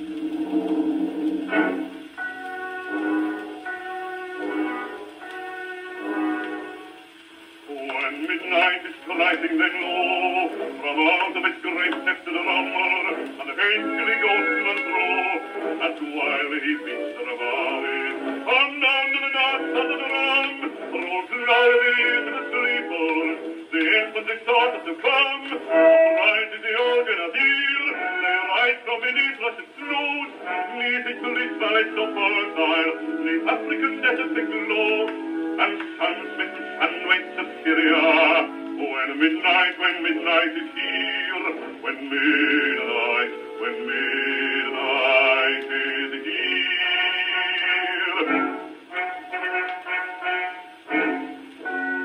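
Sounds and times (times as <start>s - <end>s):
bass singer on gramophone record: 0.0s - 52.0s.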